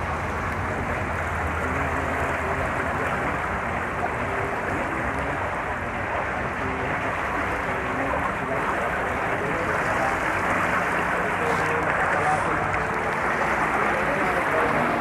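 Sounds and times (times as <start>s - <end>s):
water rushing among rocks: 0.0s - 15.0s.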